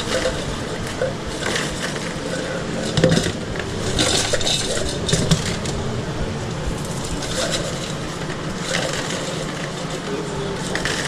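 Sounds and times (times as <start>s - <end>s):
steady hum: 0.0s - 11.0s
utensils and dishes clattering: 0.0s - 11.0s.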